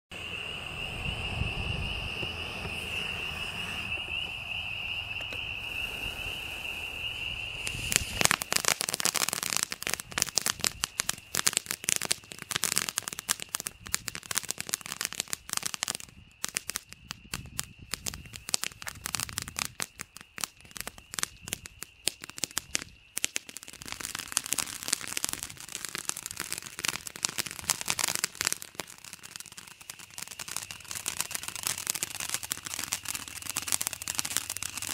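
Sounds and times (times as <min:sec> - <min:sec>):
firework fountain crackling: 0:00.2 - 0:34.9.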